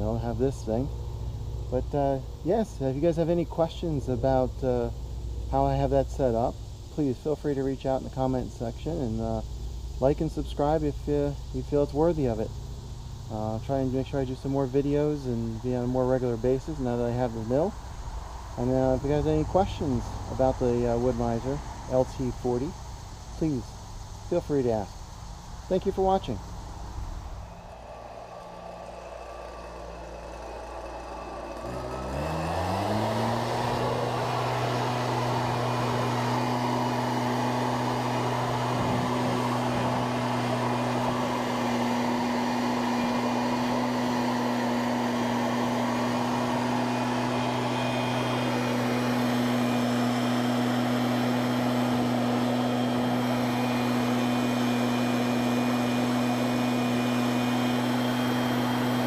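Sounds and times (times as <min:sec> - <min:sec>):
fan-like rushing noise: 0:00.0 - 0:59.0
machine starting and humming: 0:00.0 - 0:59.0.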